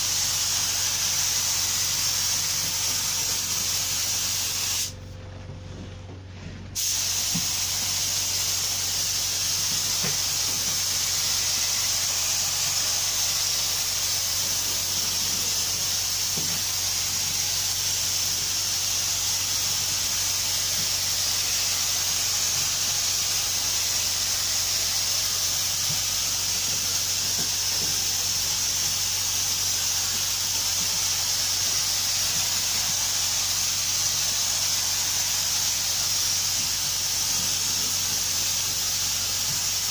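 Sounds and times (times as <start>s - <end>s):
paint spray gun hissing: 0.0s - 5.0s, 6.8s - 39.9s.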